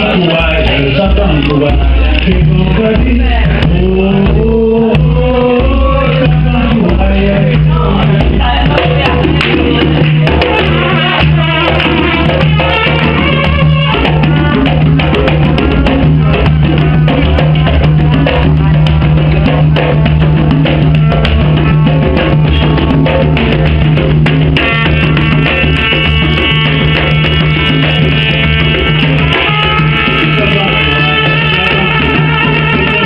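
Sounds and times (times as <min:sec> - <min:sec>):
held brass notes: 0:00.0 - 0:18.8, 0:19.4 - 0:33.0
djembes drumming: 0:00.0 - 0:33.0.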